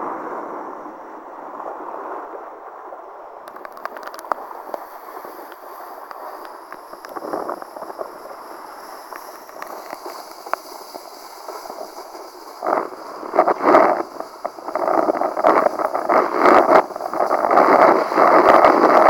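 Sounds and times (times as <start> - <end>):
rushing wind: 0.0 - 19.0
faint ticks: 3.5 - 19.0
water rushing: 3.5 - 19.0.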